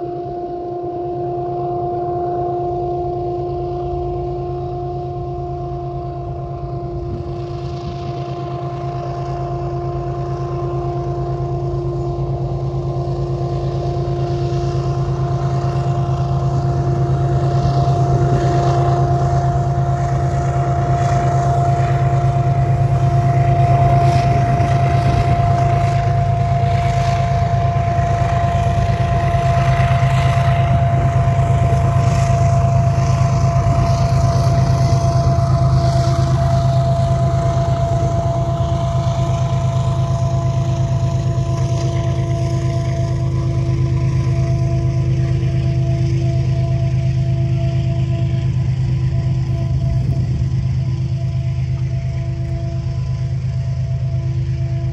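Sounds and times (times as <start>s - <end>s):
constant whine: 0.0s - 54.9s
locomotive engine drone: 0.0s - 54.9s.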